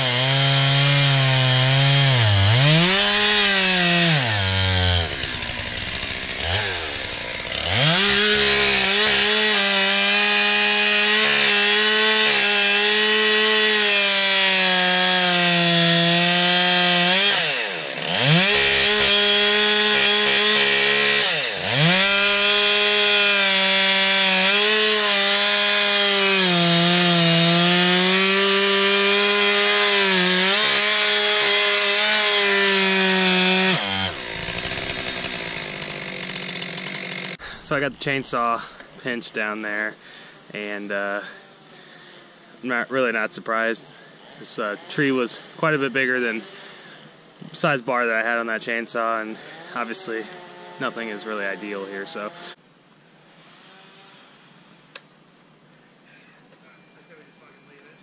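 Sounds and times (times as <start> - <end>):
chainsaw cutting log: 0.0 - 52.6, 53.3 - 55.0.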